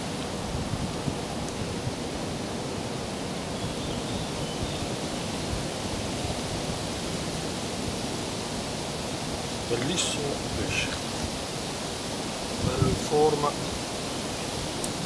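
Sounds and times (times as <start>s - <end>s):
even hiss: 0.0s - 15.0s.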